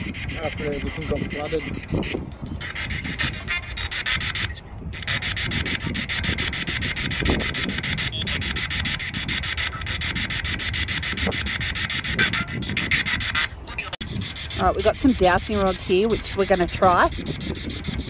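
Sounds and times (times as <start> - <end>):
rapid stuttering radio sweep: 0.0 - 18.0.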